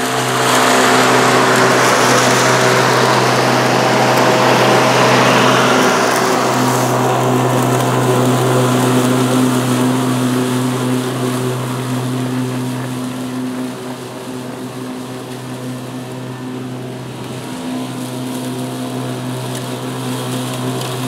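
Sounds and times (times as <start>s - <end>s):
electric lawn mower humming: 0.0s - 21.0s
mower blades cutting grass: 0.0s - 21.0s.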